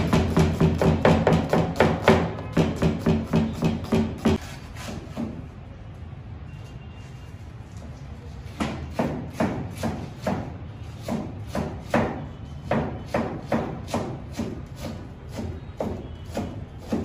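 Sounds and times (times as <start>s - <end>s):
knife chopping on plastic board: 0.0s - 5.4s, 8.6s - 17.0s.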